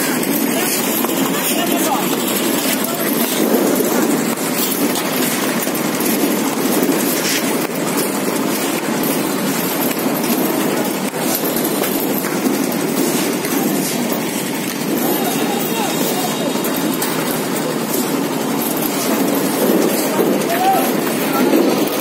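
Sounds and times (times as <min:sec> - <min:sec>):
construction machinery rumbling: 0:00.0 - 0:22.0.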